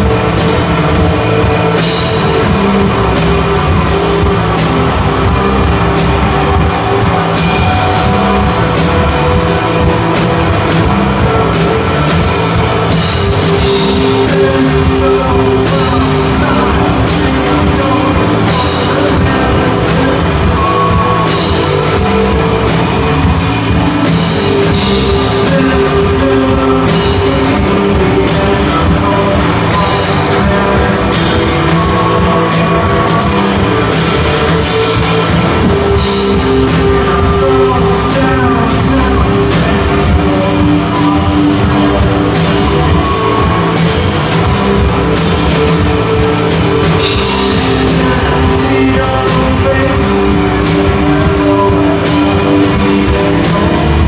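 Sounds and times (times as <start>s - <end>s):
drum kit beat: 0.0s - 54.0s
live rock band playing: 0.0s - 54.0s.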